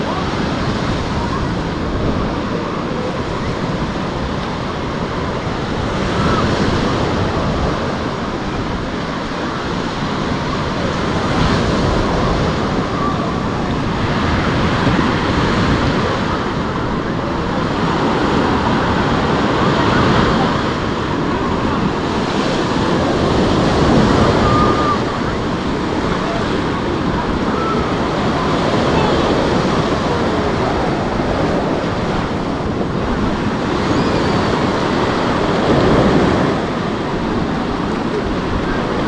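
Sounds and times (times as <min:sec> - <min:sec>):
surf washing onto beach: 0:00.0 - 0:39.0
wind buffeting microphone: 0:00.0 - 0:39.0.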